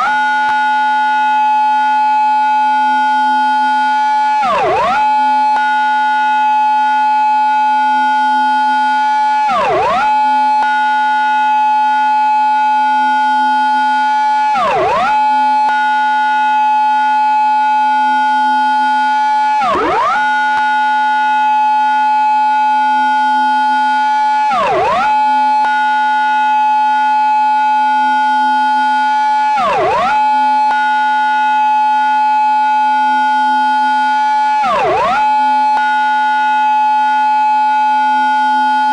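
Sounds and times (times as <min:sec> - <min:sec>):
police car siren wailing: 0:00.0 - 0:38.9.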